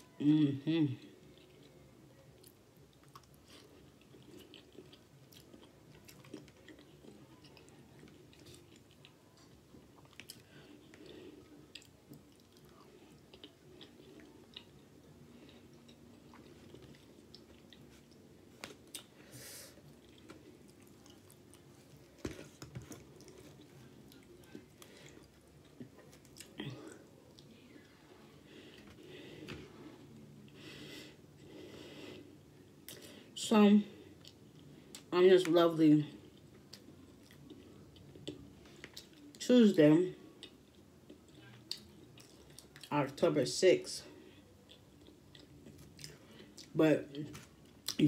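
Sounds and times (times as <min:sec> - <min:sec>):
faint steady hum: 0:00.0 - 0:48.0
chewing and wet mouth sounds: 0:01.0 - 0:30.6, 0:33.9 - 0:39.4, 0:40.2 - 0:43.2, 0:44.1 - 0:48.0.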